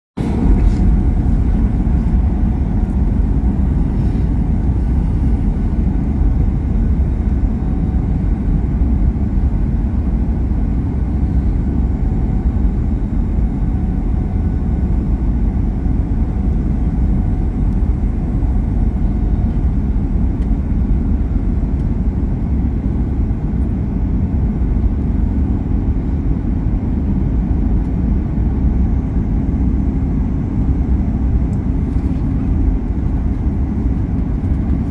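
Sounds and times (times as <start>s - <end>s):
airplane cabin rumble: 0.2s - 34.9s.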